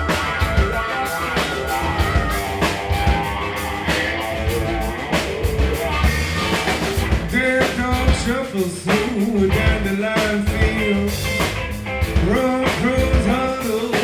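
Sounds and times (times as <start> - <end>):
blues-rock band playing: 0.0 - 14.0
drum kit beat: 0.0 - 14.0
guitar: 0.0 - 14.0.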